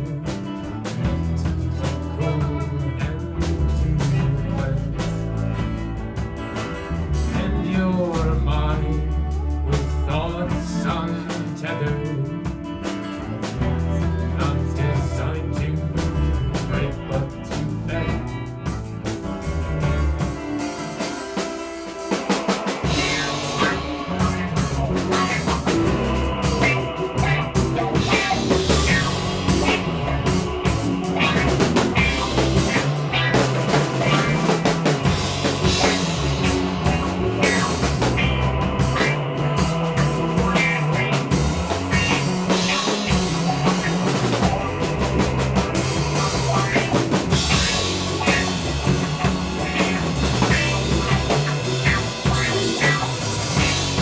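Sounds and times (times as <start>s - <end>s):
bass guitar: 0.0s - 54.0s
drum kit: 0.0s - 54.0s
electric guitar: 0.0s - 54.0s
rock band playing live: 0.0s - 54.0s.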